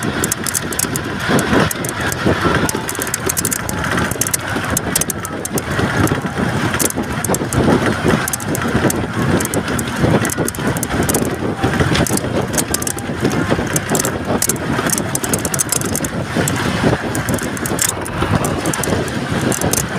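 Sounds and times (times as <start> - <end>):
road and wind noise: 0.0 - 19.9
short crackles: 0.0 - 19.9.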